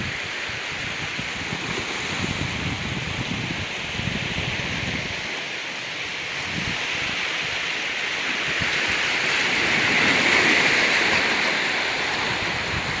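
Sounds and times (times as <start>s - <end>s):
waves washing onto rocky beach: 0.0s - 13.0s.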